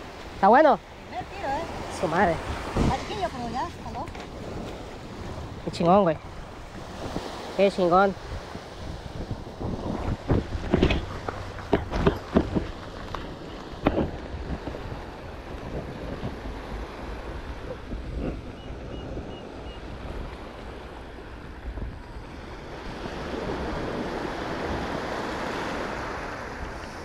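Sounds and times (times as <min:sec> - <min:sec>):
waves washing against rocks: 0:00.0 - 0:18.6, 0:19.8 - 0:27.0
wind buffeting microphone: 0:00.0 - 0:27.0.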